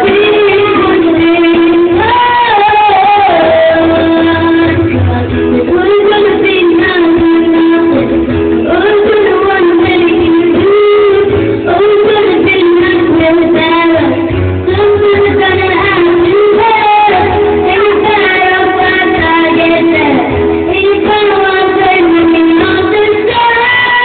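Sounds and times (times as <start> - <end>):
girl singing pop ballad: 0.0 - 24.0
live band playing: 0.0 - 24.0.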